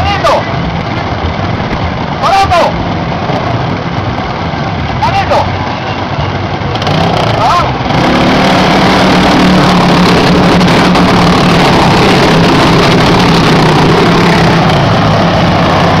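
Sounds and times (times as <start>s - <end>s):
go-kart engines racing: 0.0s - 16.0s.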